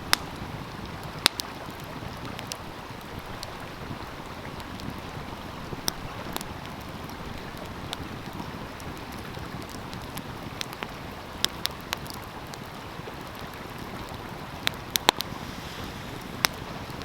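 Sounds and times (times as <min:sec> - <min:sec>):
stream water rushing: 0:00.0 - 0:17.0
wood fire crackling and popping: 0:00.0 - 0:17.0.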